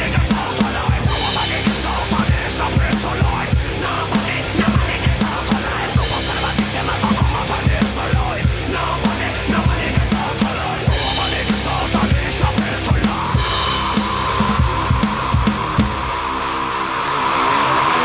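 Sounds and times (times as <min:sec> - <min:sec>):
electronic drum kick and snare beat: 0:00.0 - 0:16.5
heavy rock backing track: 0:00.0 - 0:18.0.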